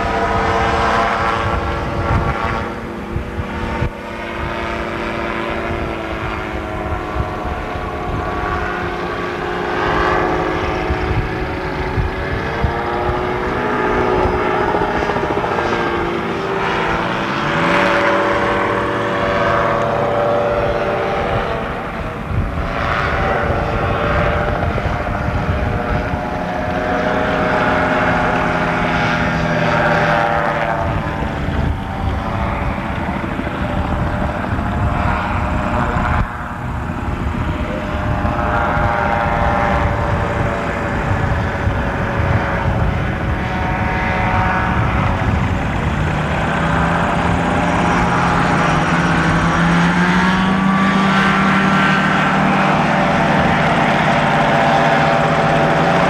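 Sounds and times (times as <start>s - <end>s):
buzzing gyrocopter engine: 0.0s - 56.0s.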